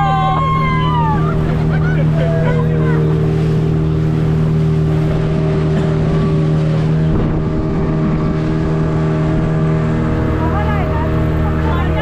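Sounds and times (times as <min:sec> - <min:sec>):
speedboat engine running: 0:00.0 - 0:12.0.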